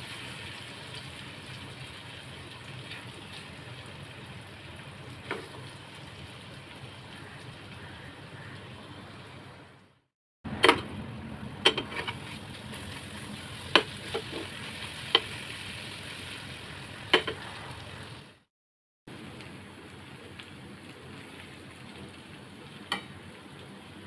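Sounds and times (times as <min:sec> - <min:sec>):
chicken frying in hot oil: 0:00.0 - 0:09.9, 0:10.5 - 0:18.4, 0:19.1 - 0:24.0.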